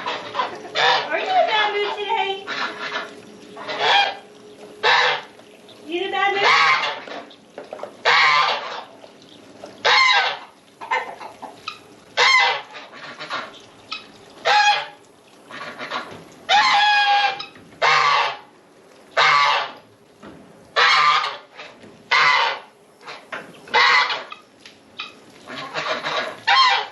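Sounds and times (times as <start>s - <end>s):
goose honking: 0.0s - 4.2s, 4.8s - 5.4s, 6.2s - 7.3s, 8.0s - 9.0s, 9.8s - 18.5s, 19.1s - 19.8s, 20.8s - 24.4s, 25.0s - 26.9s.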